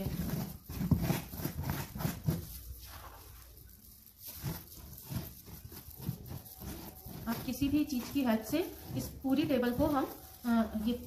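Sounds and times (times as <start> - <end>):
paste scraping and squishing: 0.0 - 11.0.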